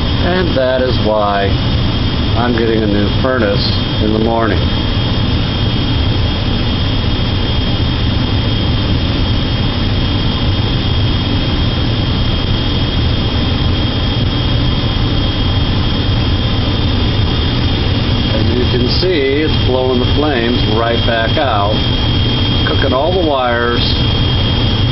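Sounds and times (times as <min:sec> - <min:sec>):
gas furnace roaring: 0:00.0 - 0:24.9.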